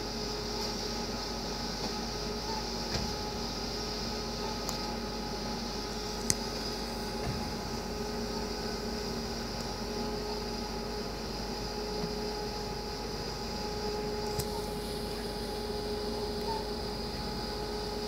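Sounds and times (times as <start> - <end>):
insulation blowing machine humming: 0.0 - 18.0.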